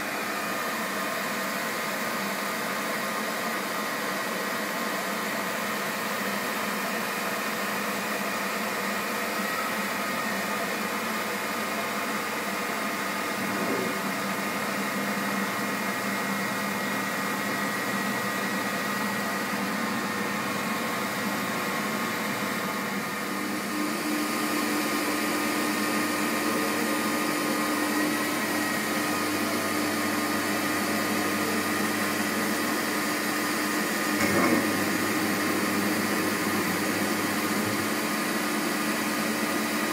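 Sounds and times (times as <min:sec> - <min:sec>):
milling machine whine and hum: 0:00.0 - 0:39.9.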